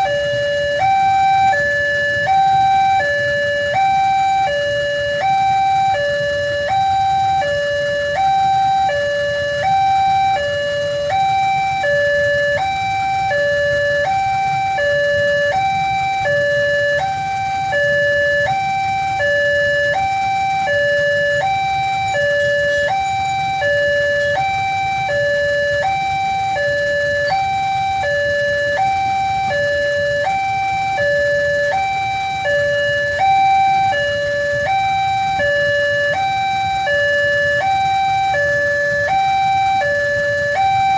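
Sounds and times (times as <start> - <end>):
level-crossing two-tone alarm: 0.0 - 40.9.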